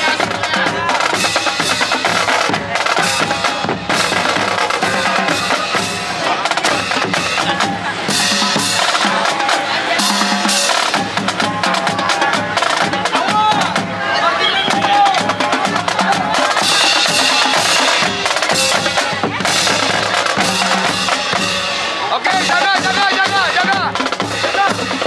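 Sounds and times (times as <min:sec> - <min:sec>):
bass drums: 0:00.0 - 0:25.0
snare drums: 0:00.0 - 0:25.0
tenor drums: 0:00.0 - 0:25.0.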